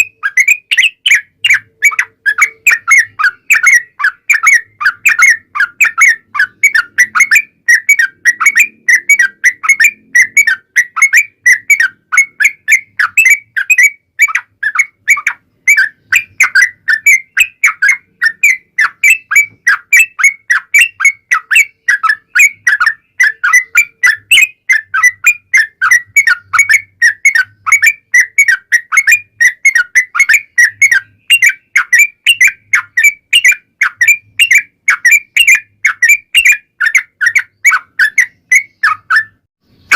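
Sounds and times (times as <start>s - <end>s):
bulbul rapid whistled song: 0.0s - 39.9s.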